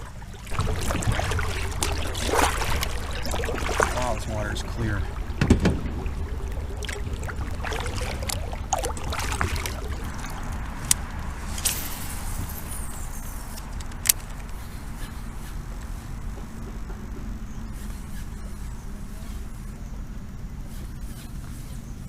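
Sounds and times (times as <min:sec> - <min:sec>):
low rumble: 0:00.0 - 0:20.7.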